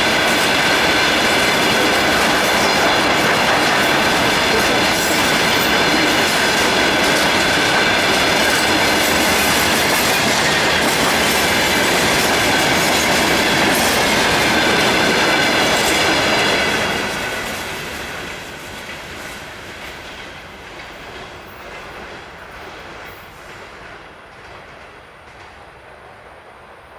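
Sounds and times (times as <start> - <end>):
train wagons clattering over rails: 0.0 - 25.8.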